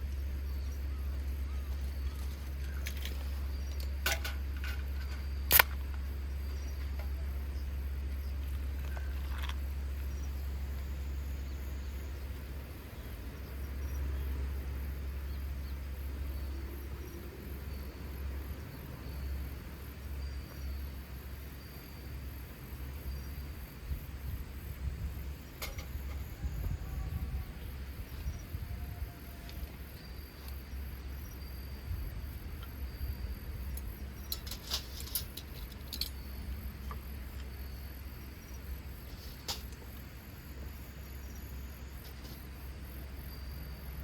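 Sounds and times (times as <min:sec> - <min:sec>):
steady low rumble: 0:00.0 - 0:39.2
faint insects chirping: 0:00.0 - 0:44.0.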